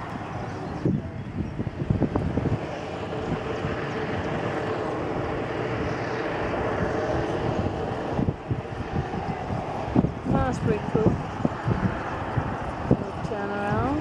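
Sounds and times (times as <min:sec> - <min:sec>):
watercraft engine at high revs: 0:00.0 - 0:14.0
wind buffeting microphone: 0:00.0 - 0:14.0.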